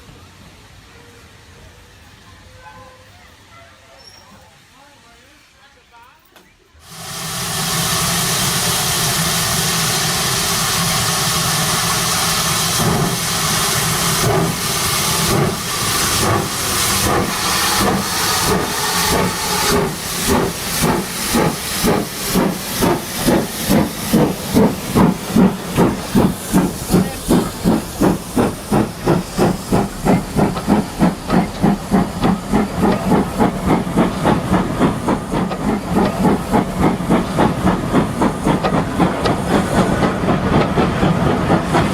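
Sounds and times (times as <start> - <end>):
steam locomotive hissing steam: 0.0 - 5.9, 6.8 - 41.9
locomotive exhaust chuffs: 6.9 - 41.9.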